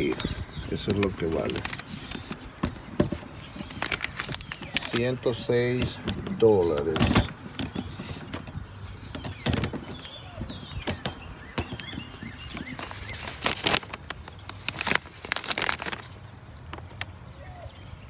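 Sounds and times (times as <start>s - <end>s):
handling clicks and rustles: 0.0s - 17.3s
small birds chirping: 0.0s - 18.0s.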